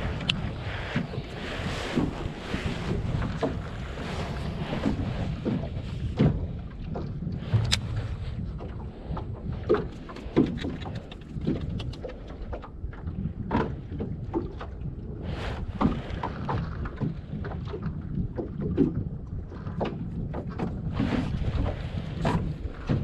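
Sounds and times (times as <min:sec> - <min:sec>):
water moving around hull: 0:00.0 - 0:23.0
wind buffeting microphone: 0:00.0 - 0:23.0.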